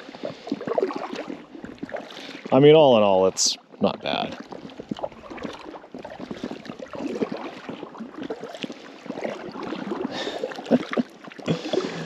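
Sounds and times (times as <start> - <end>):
paddle splashing in water: 0.0 - 12.0
water dripping on hull: 0.1 - 12.0.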